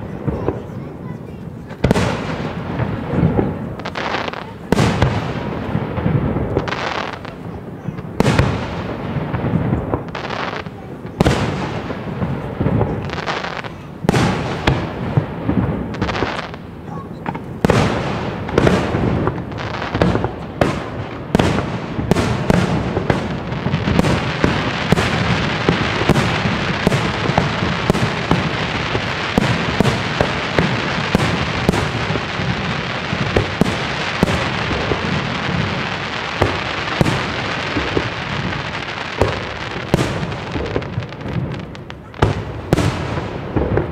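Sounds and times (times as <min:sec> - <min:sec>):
dense continuous fireworks noise: 0:00.0 - 0:43.9.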